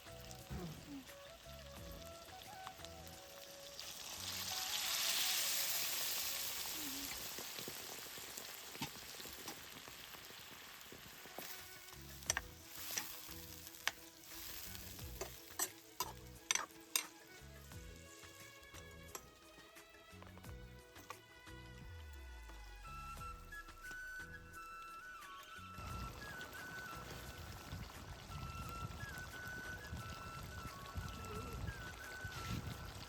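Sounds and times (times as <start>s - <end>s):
food sizzling in hot oil: 0.0s - 20.3s, 22.8s - 33.0s.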